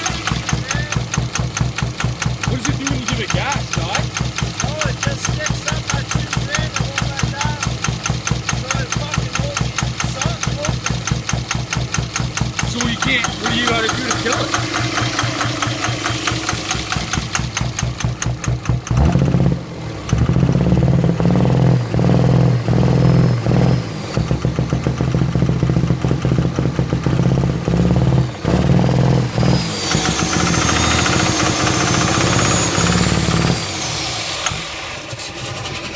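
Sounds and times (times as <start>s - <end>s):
diesel engine knocking: 0.0s - 21.3s, 24.2s - 28.9s, 29.7s - 33.8s.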